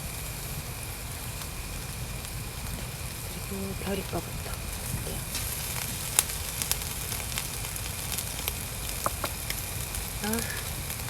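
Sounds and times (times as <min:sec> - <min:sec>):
sharp pops and crackles: 0:00.0 - 0:11.0
skewers sizzling on a grill: 0:00.0 - 0:11.0.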